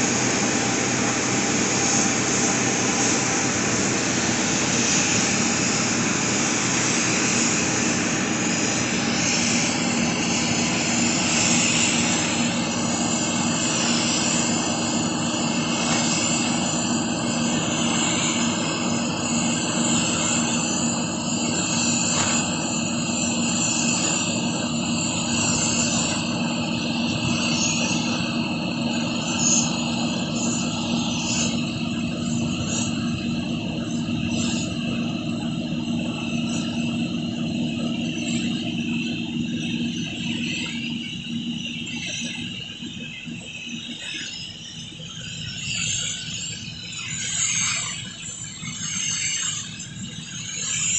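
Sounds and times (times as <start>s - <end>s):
paint spray gun hissing: 0.0s - 42.4s
mechanical hum: 0.0s - 50.9s.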